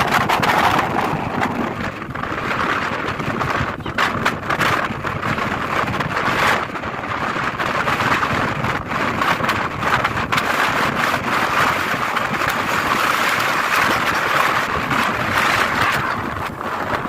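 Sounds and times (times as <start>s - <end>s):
strong wind rushing: 0.0s - 17.0s
wind buffeting microphone: 0.0s - 17.0s.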